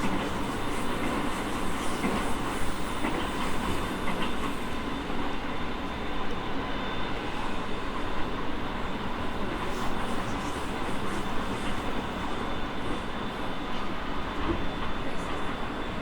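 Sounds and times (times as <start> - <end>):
thin steady whine: 0.0 - 16.0
train wheels rumbling on rail: 0.0 - 16.0.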